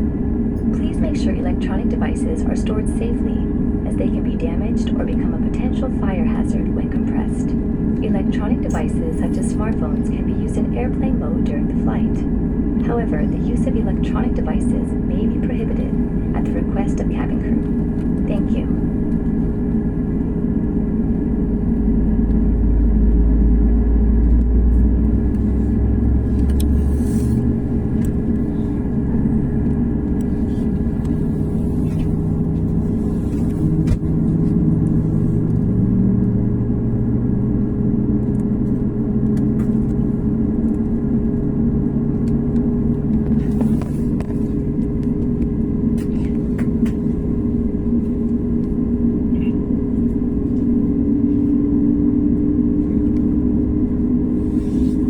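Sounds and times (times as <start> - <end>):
airliner engines rumbling in cabin: 0.0 - 55.0.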